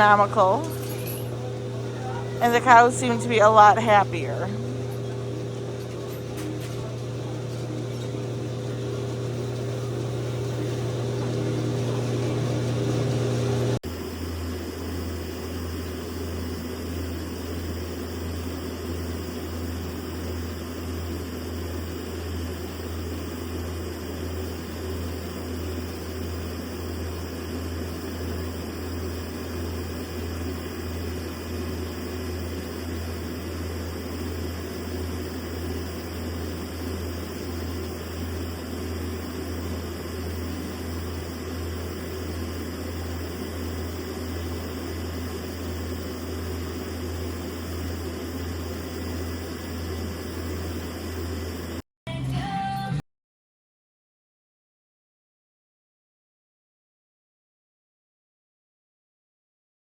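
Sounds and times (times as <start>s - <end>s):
machinery humming: 0.0s - 53.0s.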